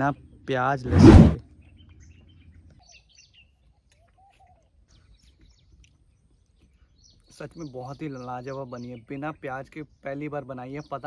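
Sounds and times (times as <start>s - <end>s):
faint bird chirps: 1.6s - 11.0s.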